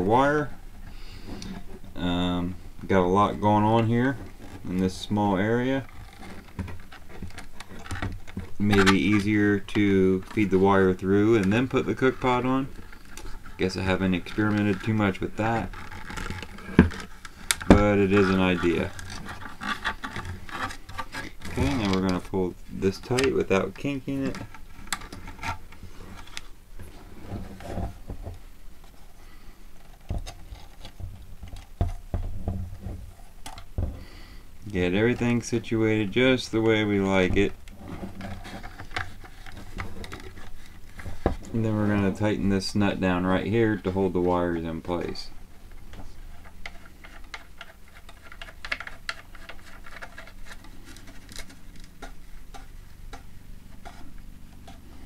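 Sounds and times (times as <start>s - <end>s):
rustling and scraping of wires: 0.0s - 55.0s.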